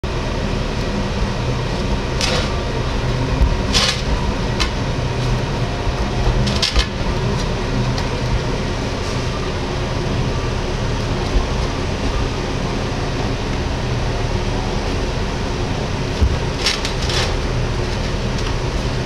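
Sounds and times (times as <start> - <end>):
low rumbling noise: 0.0 - 19.0.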